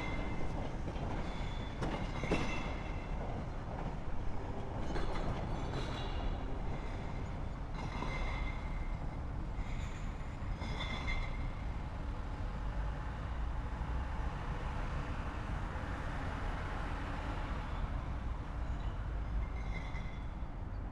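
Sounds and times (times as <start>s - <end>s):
low rumble of trains and traffic: 0.0s - 20.9s.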